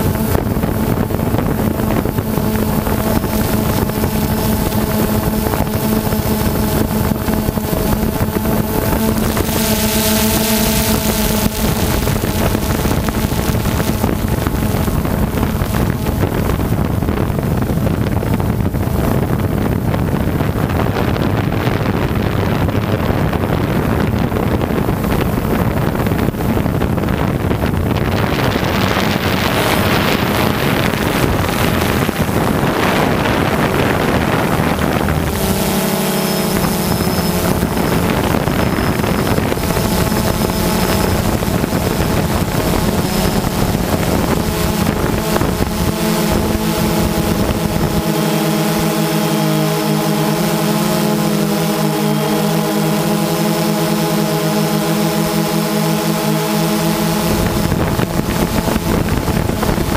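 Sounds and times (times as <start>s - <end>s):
drone propellers buzzing: 0.0s - 59.9s
steady hum of held tones: 0.0s - 59.9s
wind on microphone: 0.0s - 59.9s.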